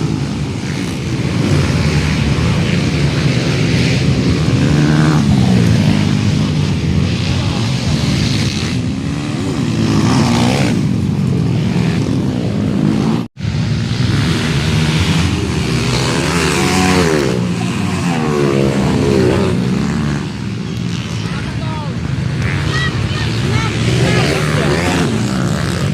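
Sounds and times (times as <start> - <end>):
dirt bike engines revving: 0.0 - 25.9.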